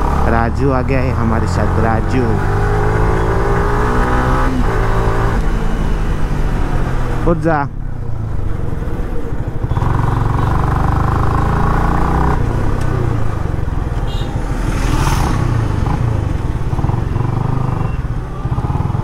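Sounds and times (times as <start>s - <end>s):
motorcycle engine cruising: 0.0s - 19.0s
road noise: 0.0s - 19.0s.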